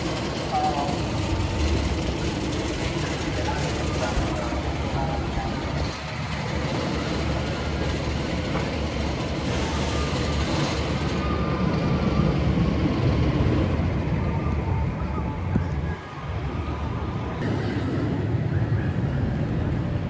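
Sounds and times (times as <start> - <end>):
steam train rumbling on track: 0.0 - 20.0.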